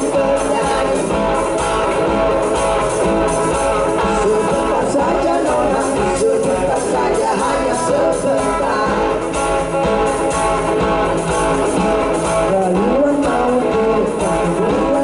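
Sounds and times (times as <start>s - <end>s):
lead vocal singing: 0.0s - 10.4s, 11.2s - 15.0s
bass guitar: 0.0s - 15.0s
drum kit: 0.0s - 15.0s
electric guitars: 0.0s - 15.0s.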